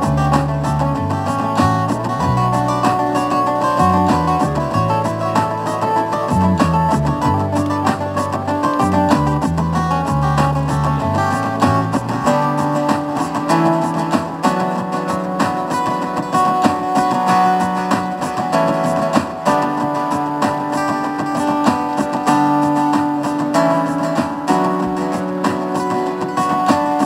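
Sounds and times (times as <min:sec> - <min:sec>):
fingerstyle acoustic guitar: 0:00.0 - 0:27.0.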